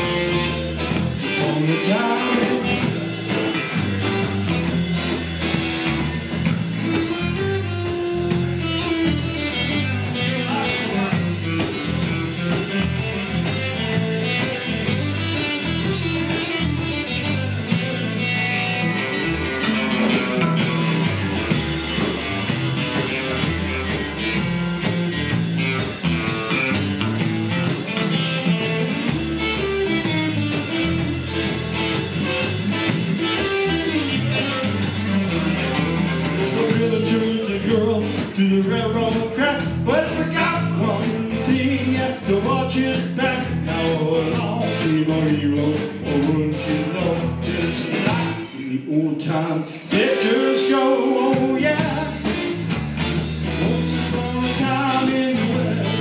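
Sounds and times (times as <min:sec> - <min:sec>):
drum kit beat: 0:00.0 - 0:48.5, 0:49.8 - 0:56.0
electric bass: 0:00.0 - 0:56.0.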